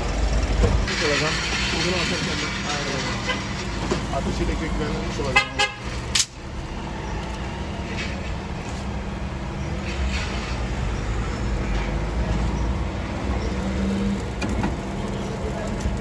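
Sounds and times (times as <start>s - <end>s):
traffic engines rumbling: 0.0s - 16.0s.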